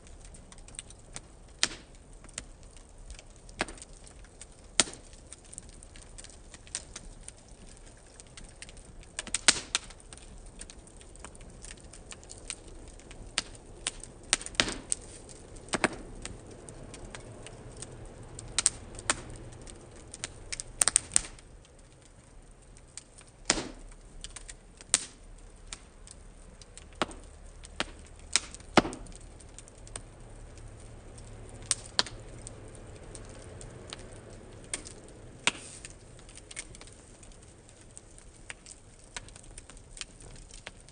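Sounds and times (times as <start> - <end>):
flames rumbling: 0.0 - 40.9
wood fire crackling and popping: 0.0 - 40.9.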